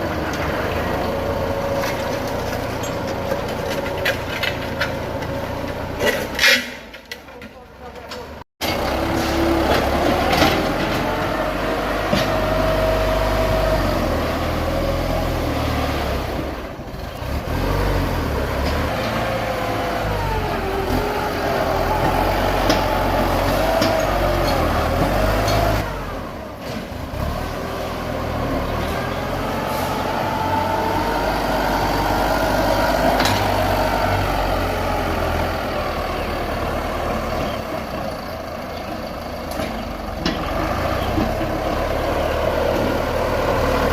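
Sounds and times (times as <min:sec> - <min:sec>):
tractor engine under load: 0:00.0 - 0:43.9.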